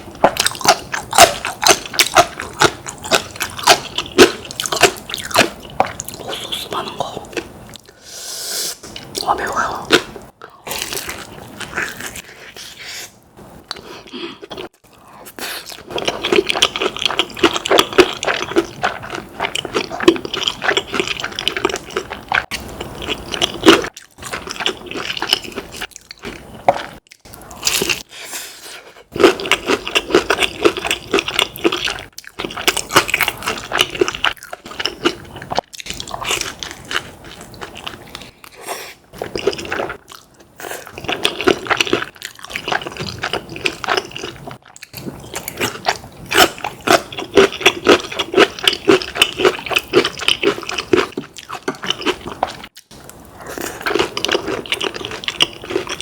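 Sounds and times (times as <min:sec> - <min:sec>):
person chewing crunchy food: 0:00.0 - 0:08.0, 0:08.8 - 0:56.0.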